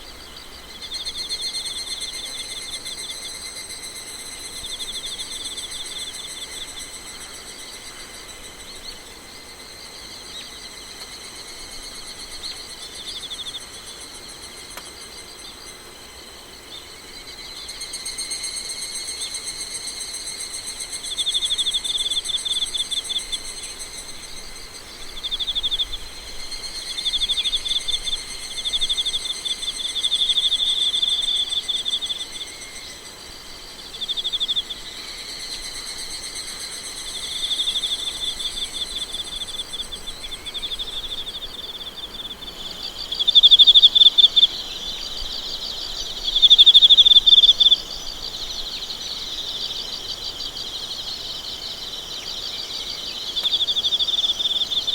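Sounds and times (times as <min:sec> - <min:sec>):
insects pulsed chirping: 0:00.0 - 0:54.9
insects trilling: 0:00.0 - 0:54.9.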